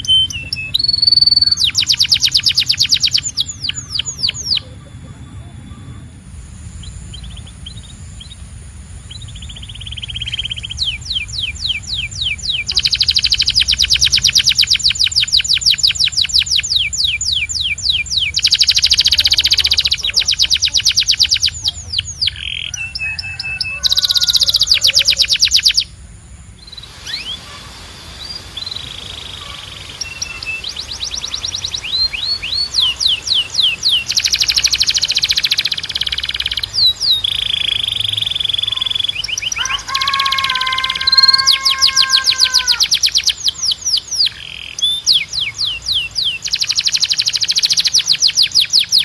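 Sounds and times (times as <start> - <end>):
steady low hum: 0.0 - 40.0
canary singing trills: 0.0 - 49.0.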